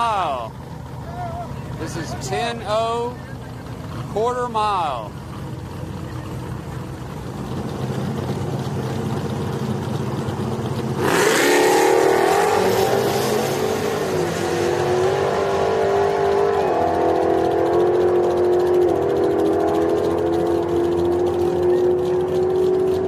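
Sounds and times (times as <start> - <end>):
engines revving at full throttle: 0.0 - 23.0
truck engines idling: 0.0 - 23.0.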